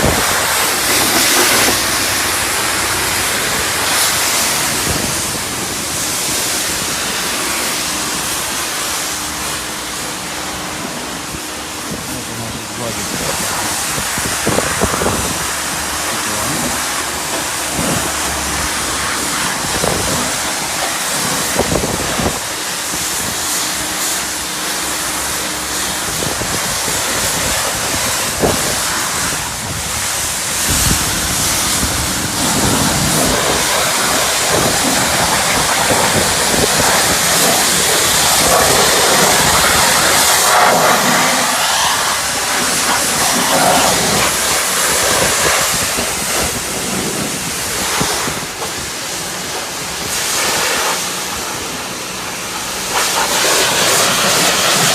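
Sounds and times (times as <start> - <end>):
pressure wand spraying water: 0.0 - 54.9.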